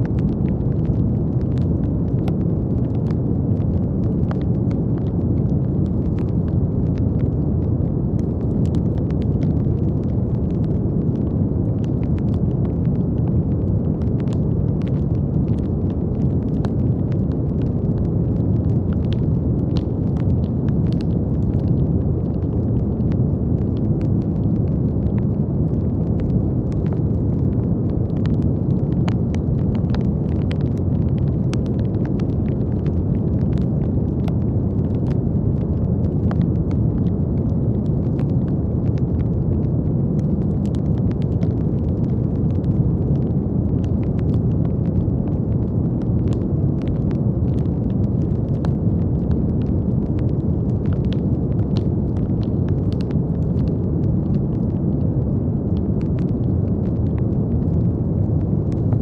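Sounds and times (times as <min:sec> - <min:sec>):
deep brown noise: 0:00.0 - 0:59.0
faint crackling clicks: 0:00.0 - 0:59.0.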